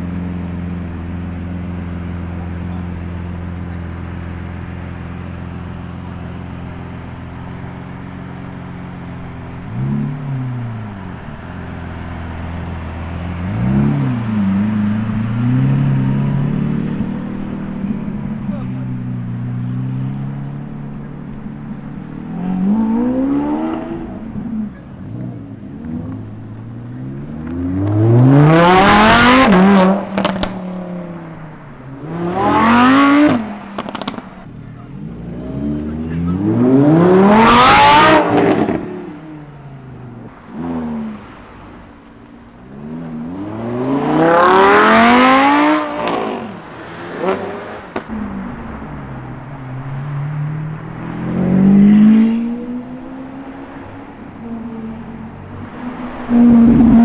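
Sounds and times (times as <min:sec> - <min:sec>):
car engines accelerating hard: 0:00.0 - 0:57.0.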